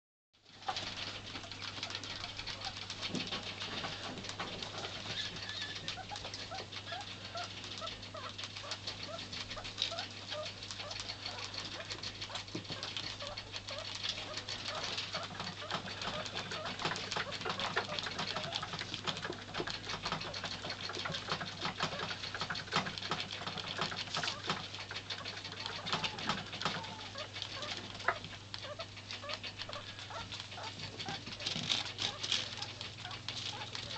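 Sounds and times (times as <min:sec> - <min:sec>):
rats chewing crunches: 0:00.5 - 0:33.9.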